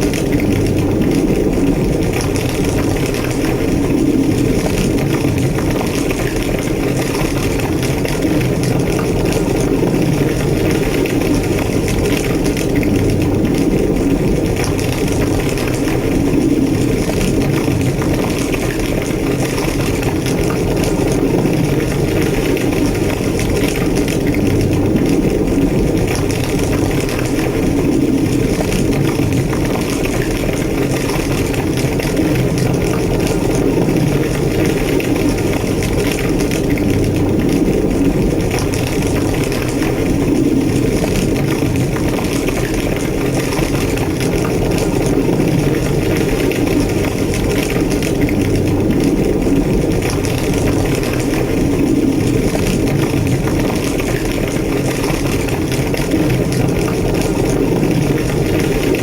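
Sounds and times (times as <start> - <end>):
faint fire crackles: 0.0 - 59.0
fire roaring: 0.0 - 59.0.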